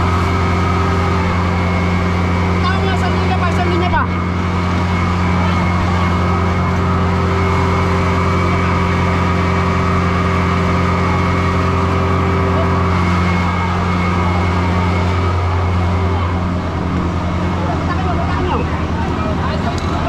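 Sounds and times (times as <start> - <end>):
fire truck engine running: 0.0 - 20.0.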